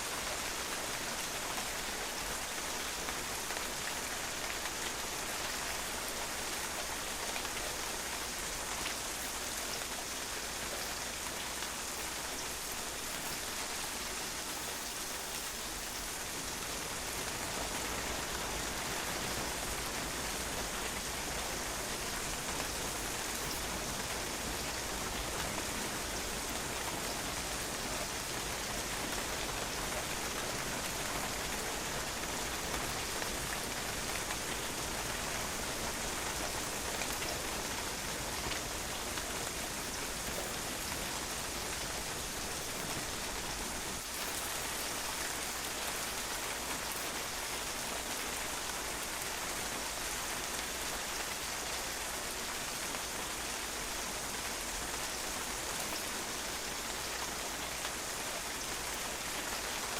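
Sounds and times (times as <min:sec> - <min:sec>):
rain splashing on a patio: 0:00.0 - 0:59.9.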